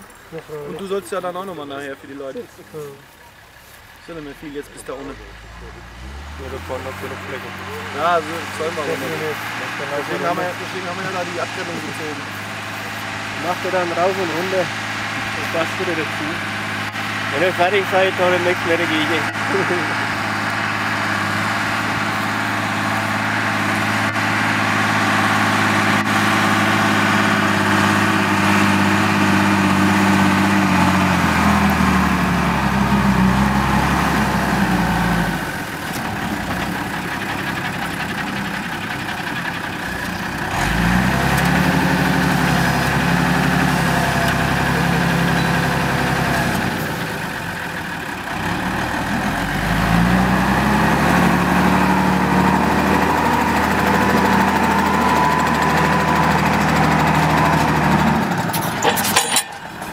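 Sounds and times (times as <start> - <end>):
diesel engine working a plough: 0.0 - 59.9.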